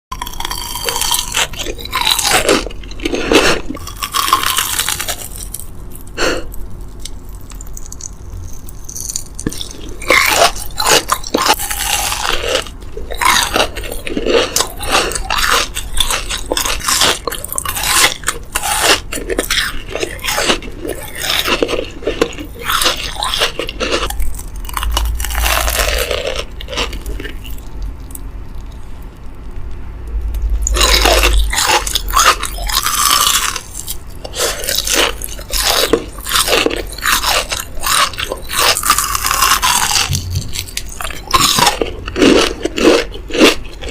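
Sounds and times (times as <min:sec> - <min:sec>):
crunchy chewing of crisp food: 0:00.1 - 0:43.9.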